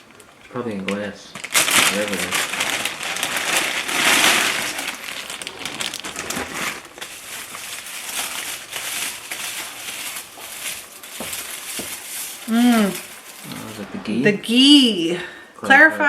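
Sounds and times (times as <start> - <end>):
packing material crinkling: 0.0 - 14.4.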